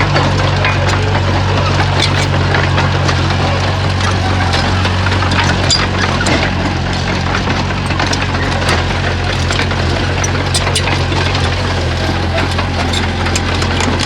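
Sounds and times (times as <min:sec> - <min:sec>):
bulldozer diesel engine running: 0:00.0 - 0:14.0
rock and steel tracks clanking: 0:00.0 - 0:14.0.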